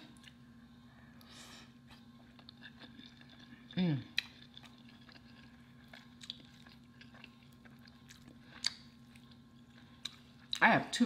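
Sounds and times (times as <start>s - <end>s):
low steady hum: 0.0s - 11.0s
chewing food: 1.2s - 10.7s.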